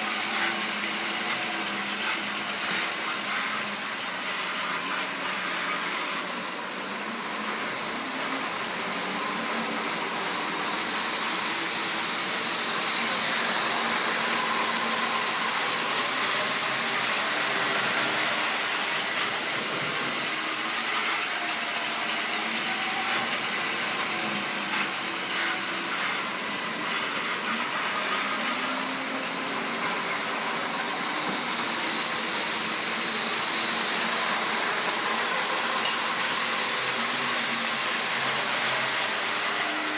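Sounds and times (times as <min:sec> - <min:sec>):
model train motor whining: 0:00.0 - 0:39.9.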